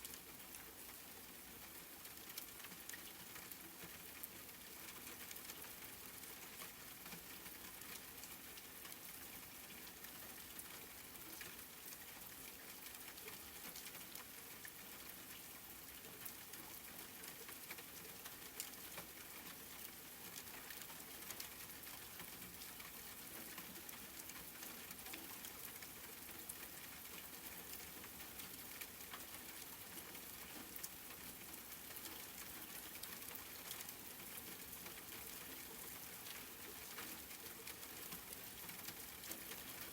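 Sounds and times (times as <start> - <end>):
faint rain hiss: 0.0 - 39.9
raindrops ticking on a surface: 0.0 - 39.9.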